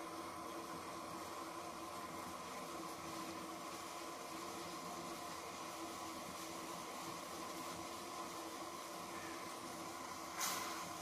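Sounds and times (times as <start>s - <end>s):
faint steady hum: 0.0s - 11.0s
gas burner hissing: 0.0s - 11.0s.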